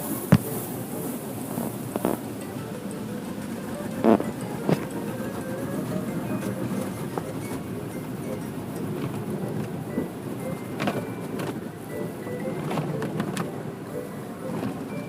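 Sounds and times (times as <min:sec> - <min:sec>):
faint music: 0:00.0 - 0:15.0.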